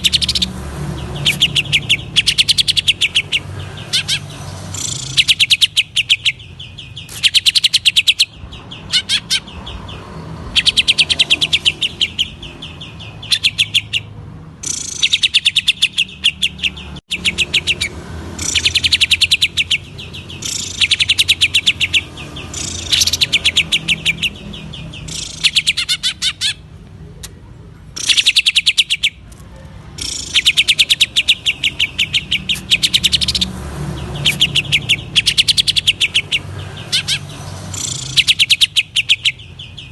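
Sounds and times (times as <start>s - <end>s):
bird singing in rattling bursts: 0.0s - 26.8s, 28.0s - 29.3s, 29.9s - 39.9s.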